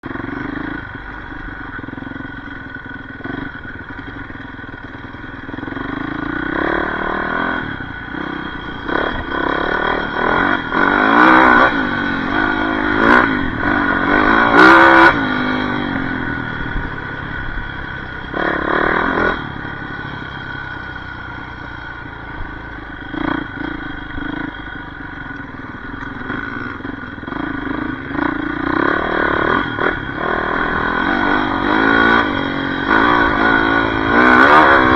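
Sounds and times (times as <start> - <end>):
dirt bike engine revving: 0.0 - 34.9.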